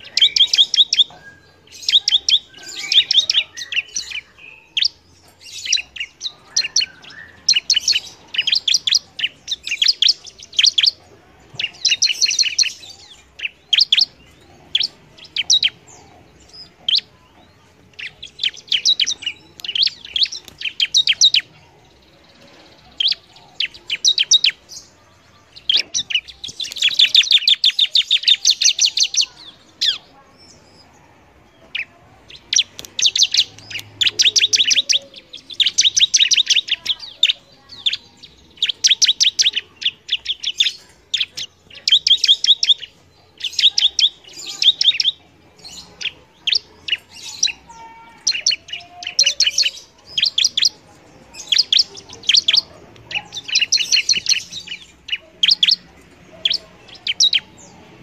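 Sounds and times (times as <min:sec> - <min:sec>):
bird singing sharp high chirps: 0:00.0 - 0:58.0.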